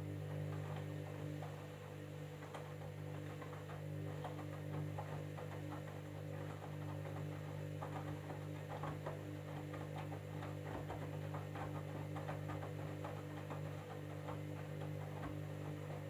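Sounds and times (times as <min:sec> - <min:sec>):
drum clicks and taps: 0:00.0 - 0:16.0
washing machine motor hum: 0:00.0 - 0:16.0.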